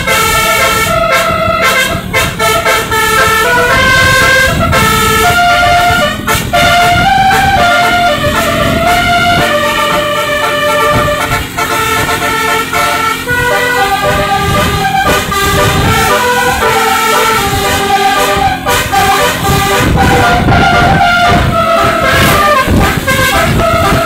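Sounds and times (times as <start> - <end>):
musical bus horn melody: 0.0 - 24.0
vehicle rumble: 0.0 - 24.0.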